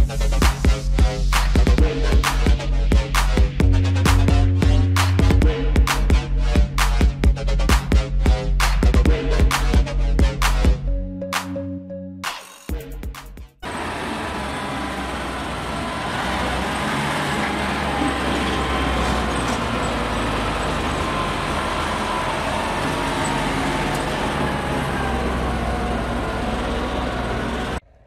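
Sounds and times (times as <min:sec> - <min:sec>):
diesel truck engine running: 0:00.0 - 0:10.7, 0:13.6 - 0:28.0.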